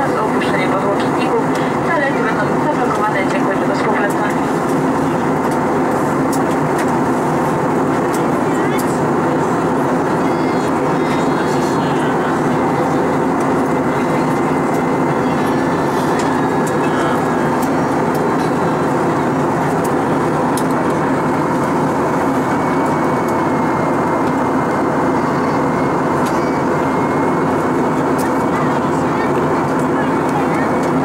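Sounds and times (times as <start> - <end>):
airflow rush in aircraft cabin: 0.0 - 31.0
turbofan engines droning: 0.0 - 31.0.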